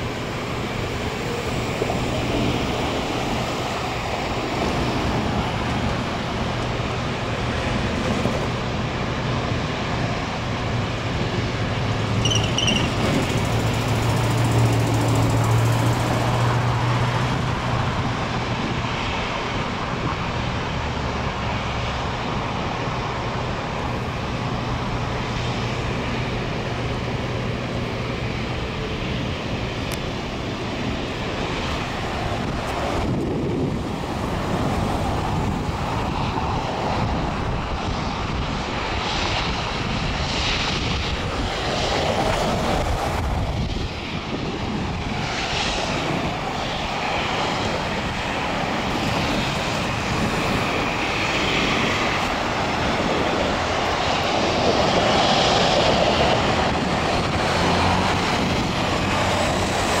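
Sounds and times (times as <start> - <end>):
road traffic rumble: 0.0 - 60.0.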